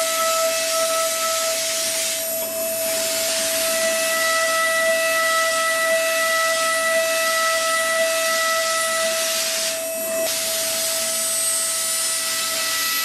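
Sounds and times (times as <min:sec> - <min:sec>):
machine spindle whine: 0:00.0 - 0:13.0.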